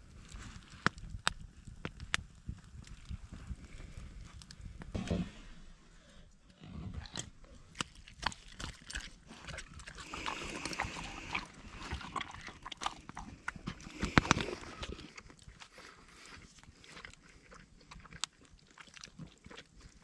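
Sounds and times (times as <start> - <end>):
wet chewing and smacking: 0.0 - 5.0, 7.0 - 20.0.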